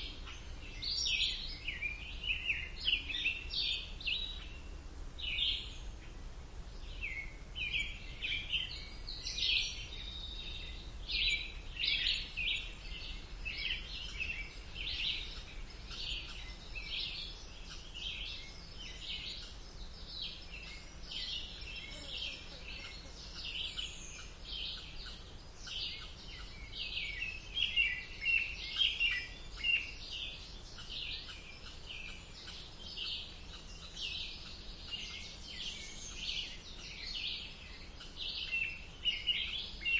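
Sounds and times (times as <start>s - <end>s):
low background hum: 0.0s - 39.9s
songbirds chirping and singing: 0.0s - 39.9s.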